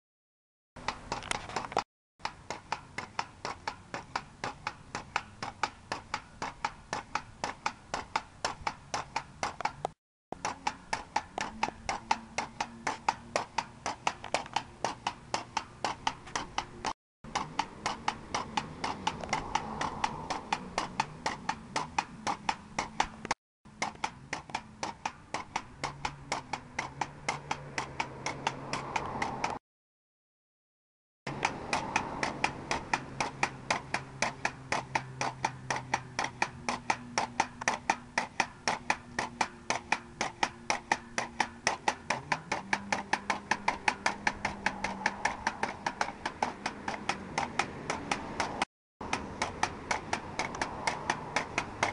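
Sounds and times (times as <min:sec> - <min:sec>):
pogo stick bouncing on asphalt: 0:00.8 - 0:29.6, 0:31.3 - 0:51.9.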